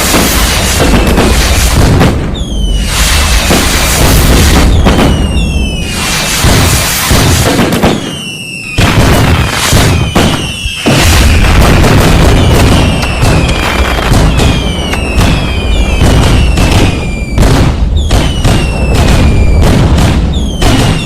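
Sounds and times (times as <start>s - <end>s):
fireworks bangs: 0.0s - 21.0s
whistling fireworks: 0.0s - 21.0s.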